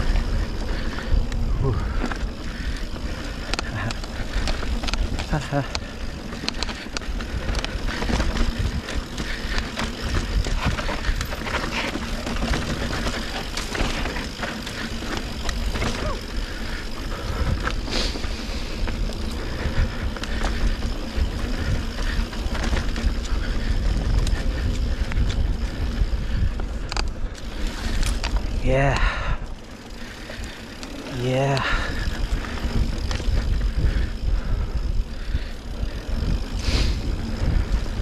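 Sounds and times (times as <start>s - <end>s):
bike tyres rattling on dirt: 0.0s - 38.0s.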